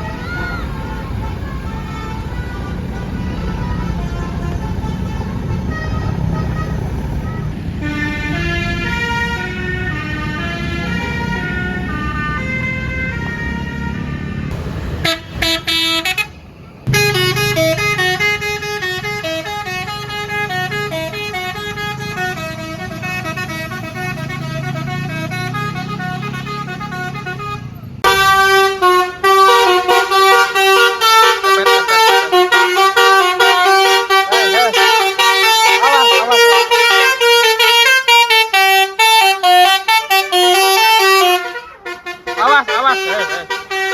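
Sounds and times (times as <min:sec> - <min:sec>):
musical bus horn melodies: 0:00.0 - 0:43.9.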